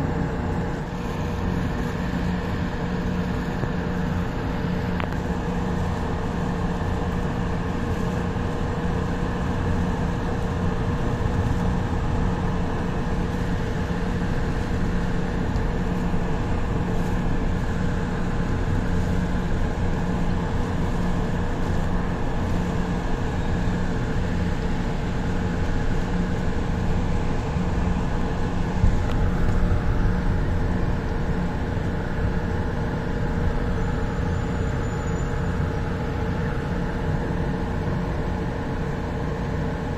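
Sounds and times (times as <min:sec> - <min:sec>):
traction motors humming and whining: 0:00.0 - 0:39.9
train rolling noise: 0:00.0 - 0:39.9.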